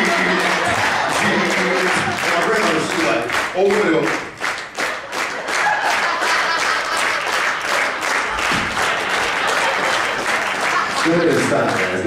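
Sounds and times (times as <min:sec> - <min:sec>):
audience clapping in rhythm: 0:00.0 - 0:12.0.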